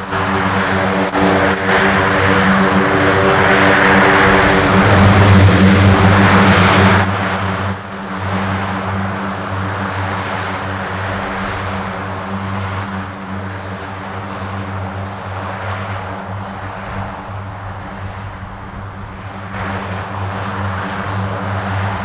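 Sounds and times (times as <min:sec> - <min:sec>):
aircraft engines droning: 0:00.0 - 0:22.0.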